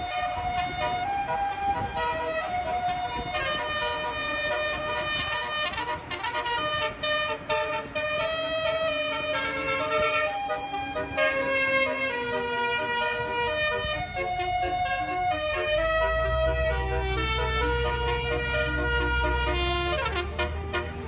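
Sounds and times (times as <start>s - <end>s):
low rumble of traffic: 0.0s - 21.0s
multi-tone bus horn playing a tune: 0.0s - 21.0s.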